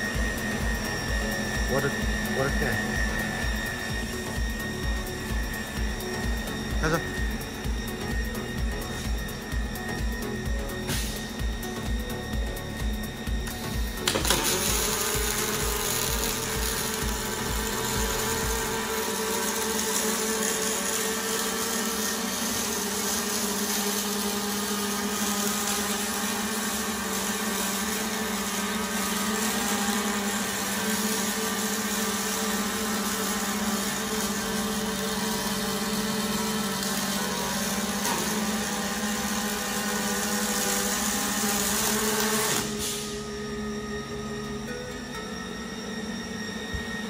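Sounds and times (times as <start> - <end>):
welding arc: 0.0 - 43.2
steady machine hum: 0.0 - 47.0.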